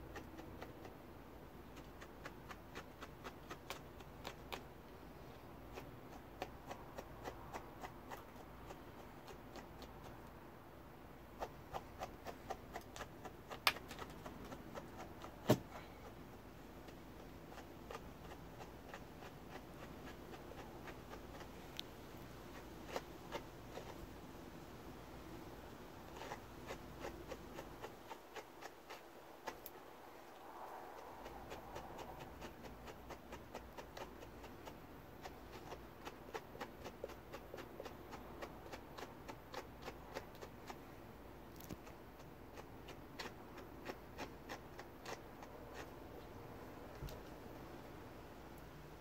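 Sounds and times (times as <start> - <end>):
brush scratching through fur: 1.6 - 10.4, 11.3 - 47.5.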